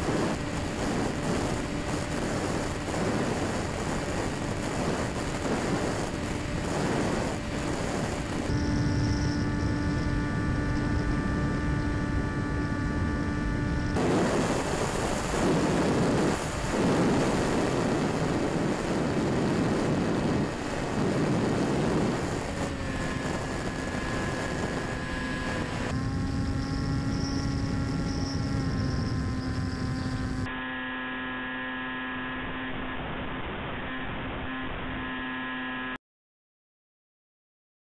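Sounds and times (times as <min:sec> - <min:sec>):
wind rushing: 0:00.0 - 0:30.5
electric motor and propeller droning: 0:00.0 - 0:36.0.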